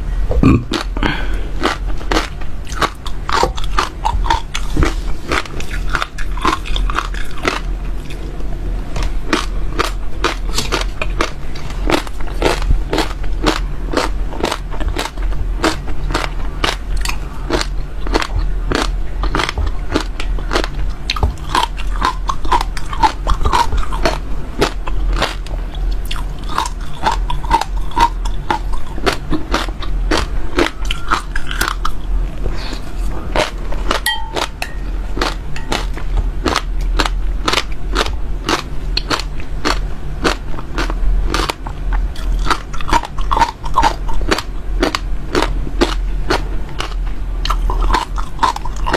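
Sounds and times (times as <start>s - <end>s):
low steady hum: 0.0s - 48.9s
seeds being chewed crunchily: 0.4s - 48.9s.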